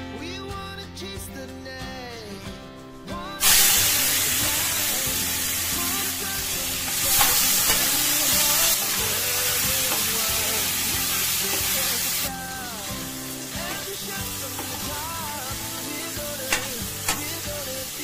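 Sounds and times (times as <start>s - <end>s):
chicken sizzling in hot oil: 3.4s - 18.0s.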